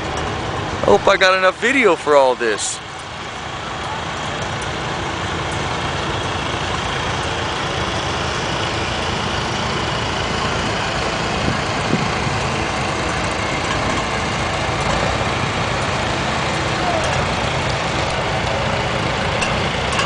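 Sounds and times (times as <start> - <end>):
tractor engines running: 0.0 - 20.0.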